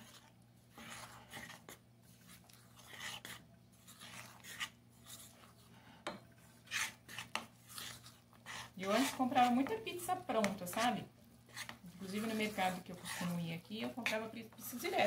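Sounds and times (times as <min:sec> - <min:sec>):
spoon scraping dough in bowl: 0:00.0 - 0:15.0.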